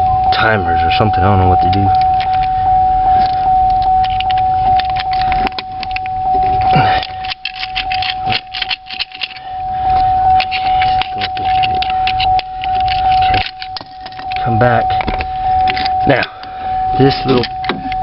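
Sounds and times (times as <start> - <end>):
steady high tone: 0.0 - 18.0
small metal parts clicking: 1.7 - 2.5, 3.2 - 16.4, 17.0 - 18.0.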